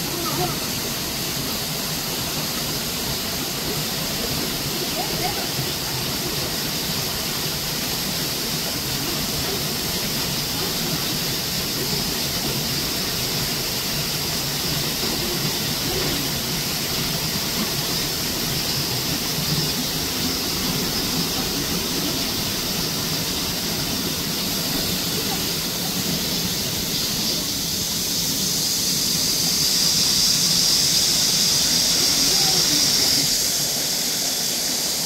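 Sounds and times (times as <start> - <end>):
steady high hiss: 0.0 - 35.0
water rushing over rocks: 0.0 - 35.0.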